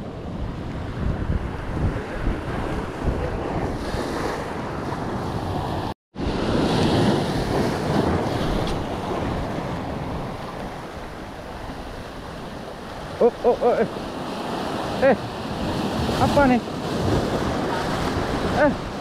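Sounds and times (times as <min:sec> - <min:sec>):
sea waves washing: 0:00.0 - 0:19.0
wind buffeting microphone: 0:00.0 - 0:19.0.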